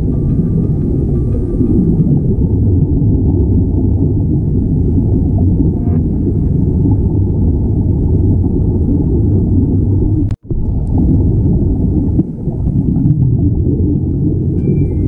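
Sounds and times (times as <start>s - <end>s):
underwater rumble with bubbles: 0.0s - 15.0s.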